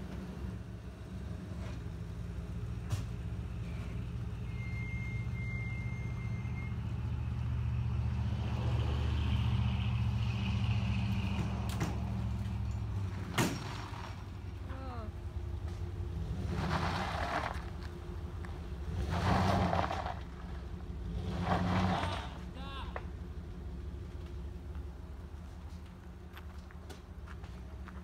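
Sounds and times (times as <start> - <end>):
pickup truck engine under load: 0.0 - 28.0.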